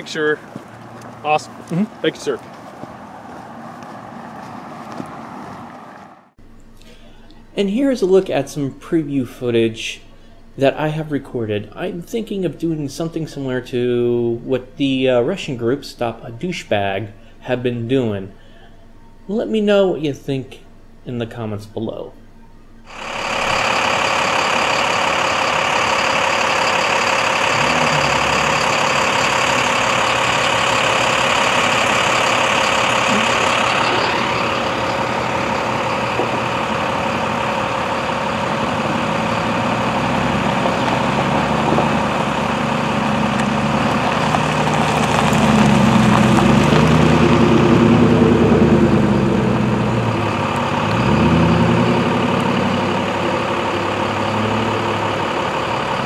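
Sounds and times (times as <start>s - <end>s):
heavy truck engine running: 0.0s - 16.4s, 22.2s - 56.0s
cars and trucks idling: 0.0s - 20.0s, 20.6s - 56.0s.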